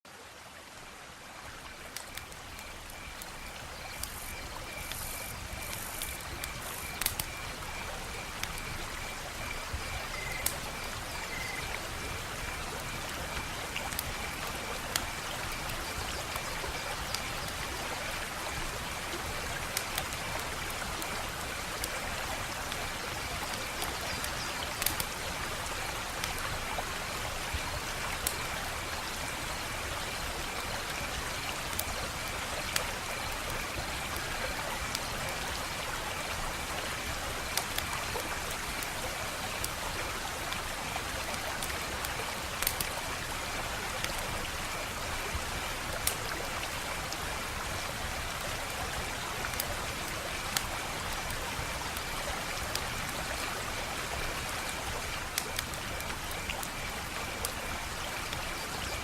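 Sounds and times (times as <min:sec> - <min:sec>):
wood fire crackling: 0:01.6 - 0:24.0, 0:24.6 - 0:58.8.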